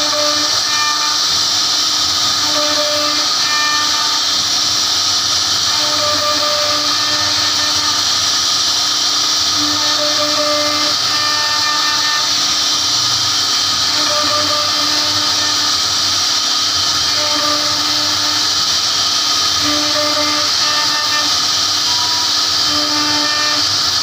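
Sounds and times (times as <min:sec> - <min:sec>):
pitched whine: 0:00.0 - 0:24.0
router bit cutting wood hiss: 0:00.0 - 0:24.0.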